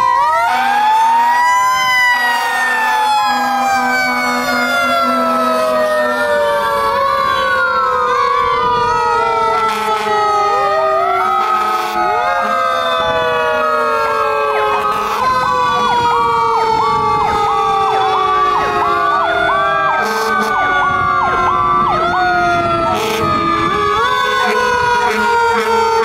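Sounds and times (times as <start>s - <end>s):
fast rising and falling siren: 0.0s - 26.0s
fire truck sirens wailing: 0.0s - 26.0s.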